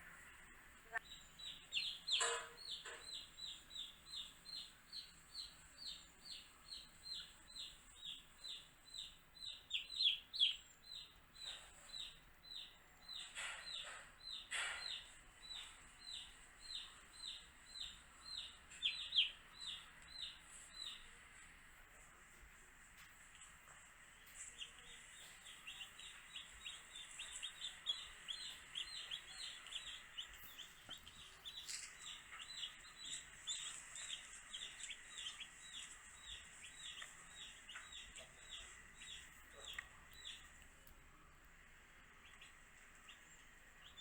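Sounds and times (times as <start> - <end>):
baby chicks peeping: 0.9 - 44.0.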